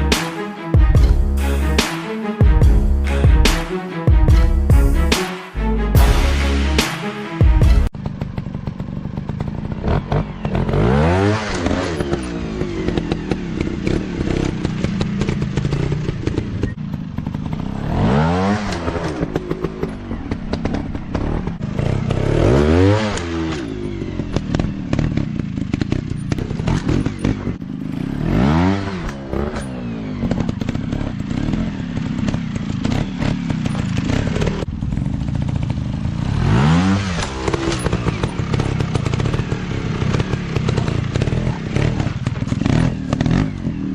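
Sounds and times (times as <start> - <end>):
dirt bike engines revving: 8.0 - 43.9.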